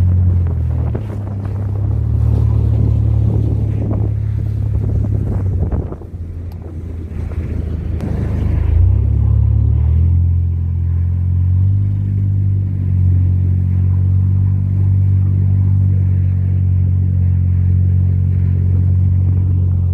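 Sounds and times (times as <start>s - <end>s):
van engine droning: 0.0s - 19.9s.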